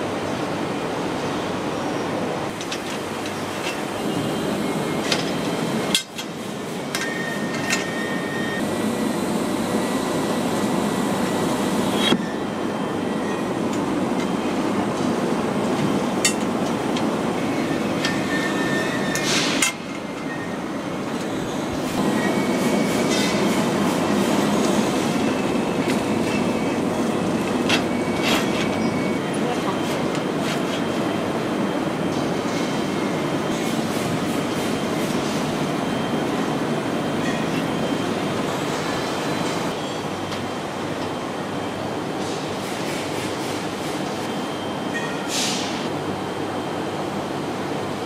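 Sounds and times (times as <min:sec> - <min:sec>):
factory machinery: 0:00.0 - 0:48.0.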